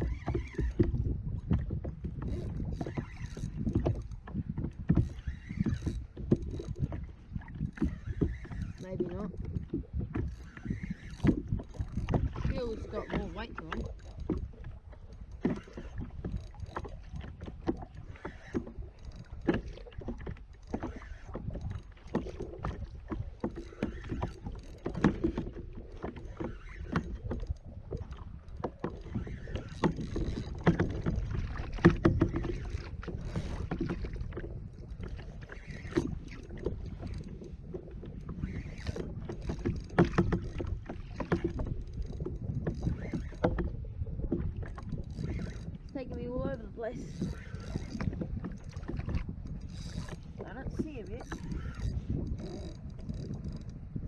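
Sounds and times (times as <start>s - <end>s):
water lapping against a hull: 0.0s - 54.0s.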